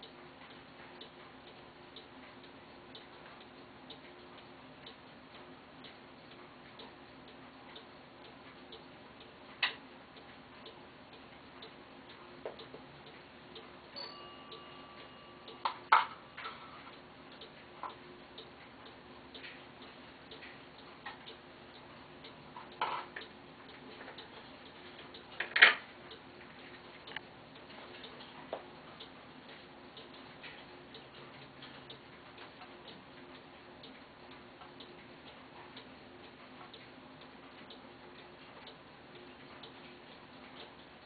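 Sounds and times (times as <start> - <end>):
faint clock ticking: 0.0 - 41.0
low steady hum: 0.0 - 41.0.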